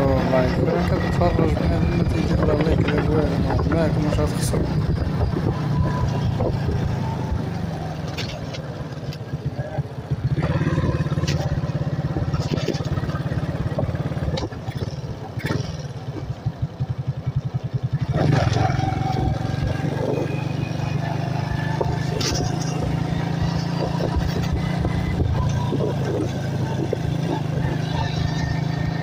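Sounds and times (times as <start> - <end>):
wind noise: 0.0 - 8.5, 10.1 - 16.6, 17.8 - 29.0
motorcycle engine running: 0.0 - 29.0.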